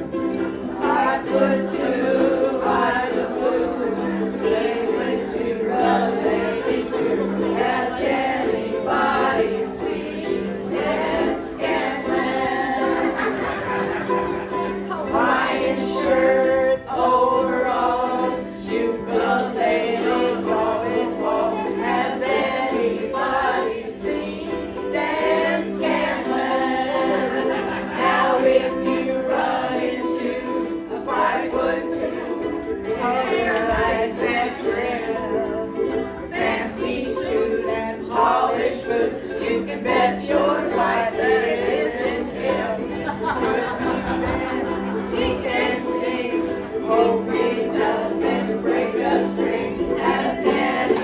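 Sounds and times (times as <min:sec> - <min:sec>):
group singing: 0:00.0 - 0:51.0
strummed string instruments: 0:00.0 - 0:51.0.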